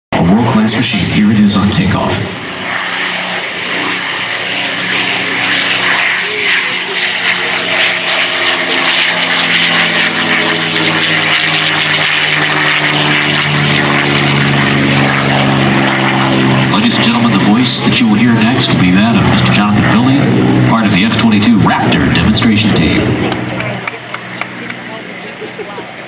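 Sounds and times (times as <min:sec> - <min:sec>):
jet engines on takeoff: 0:00.2 - 0:26.0.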